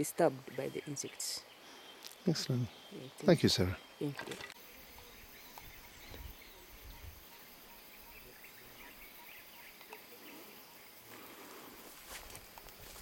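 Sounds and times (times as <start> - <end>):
high hum of insects: 0.0 - 13.0.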